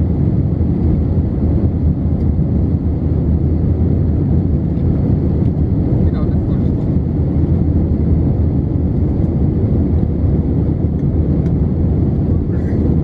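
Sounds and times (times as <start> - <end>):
jet engines and airflow rushing: 0.0 - 13.0.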